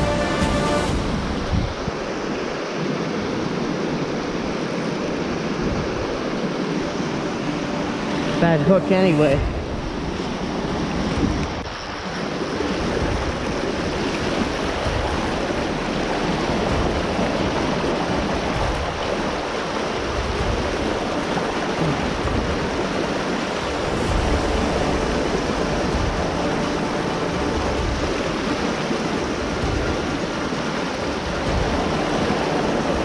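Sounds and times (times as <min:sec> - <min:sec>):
creek rushing over rapids: 0:00.0 - 0:33.0.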